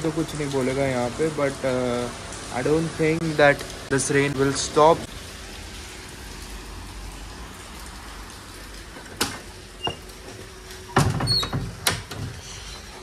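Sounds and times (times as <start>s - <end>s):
heavy rain falling on street: 0.0s - 13.0s.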